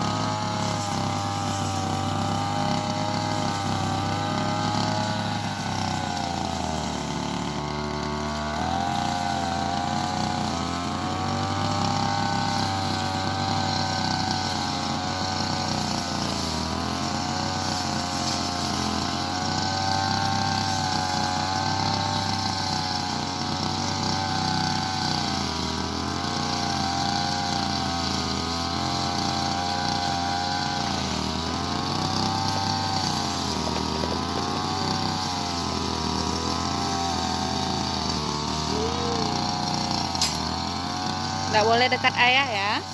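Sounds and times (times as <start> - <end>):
brush cutter engine running: 0.0 - 42.9.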